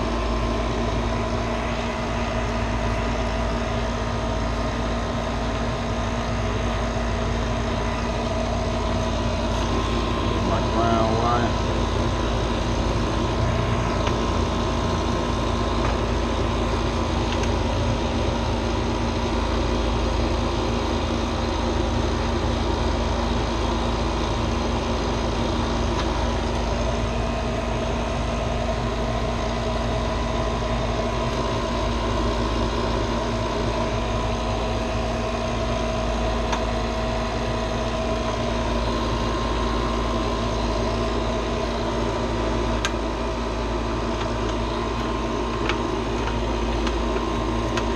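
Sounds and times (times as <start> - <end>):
motor-driven machine humming: 0.0 - 47.9.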